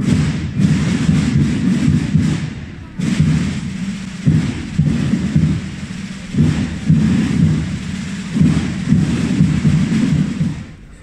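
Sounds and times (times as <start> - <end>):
procession drums booming rolls: 0.0 - 11.0.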